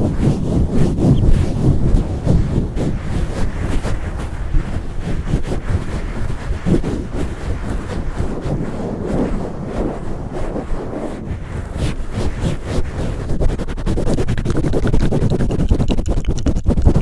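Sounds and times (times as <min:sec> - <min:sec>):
microphone handling noise: 0:00.0 - 0:17.0.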